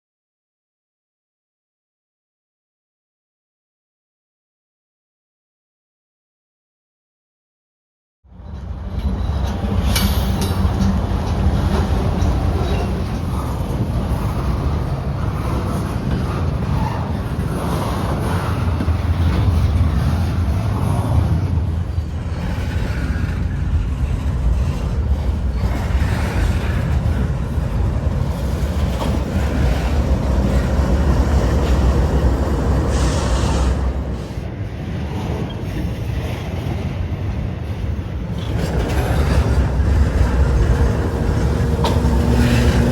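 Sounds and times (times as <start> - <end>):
train wheels rumbling on rail: 8.3 - 42.9.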